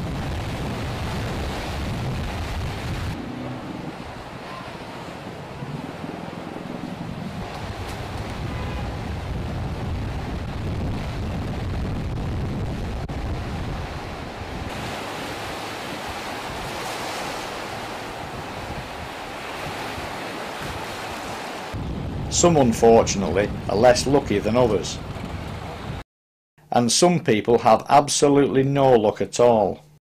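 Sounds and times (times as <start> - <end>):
surf breaking and washing: 0.0 - 26.0
wind buffeting microphone: 0.0 - 26.0.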